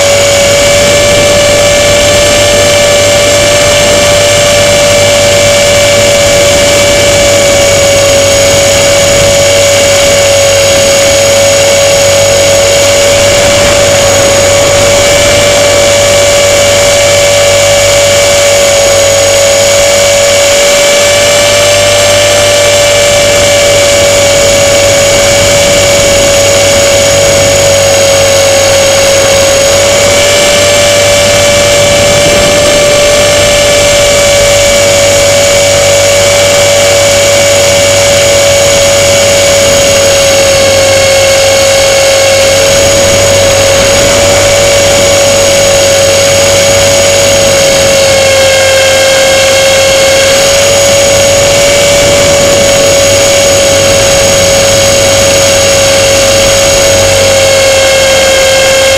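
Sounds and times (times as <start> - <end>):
model airplane motor whine: 0.0 - 58.9
wind rushing: 0.1 - 18.7, 20.3 - 36.4, 42.4 - 48.3, 49.9 - 57.4.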